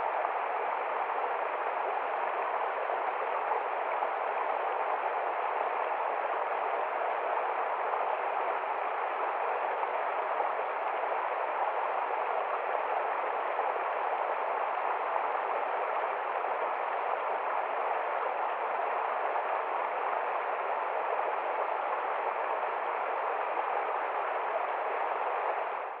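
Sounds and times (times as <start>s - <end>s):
river water flowing: 0.0s - 26.0s.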